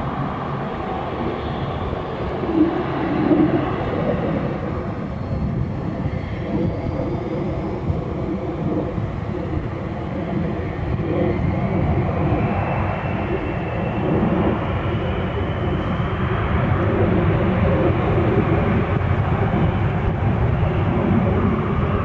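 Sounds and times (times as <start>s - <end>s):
jet engines rumbling with turbine whine: 0.0s - 22.0s.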